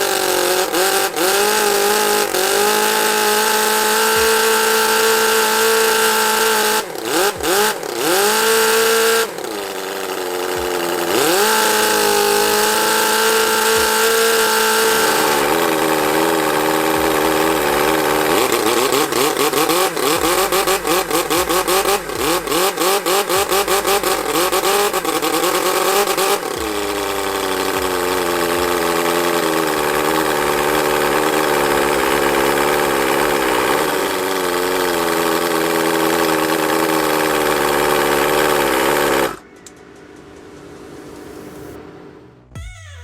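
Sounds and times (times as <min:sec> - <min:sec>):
model engine running: 0:00.0 - 0:41.8.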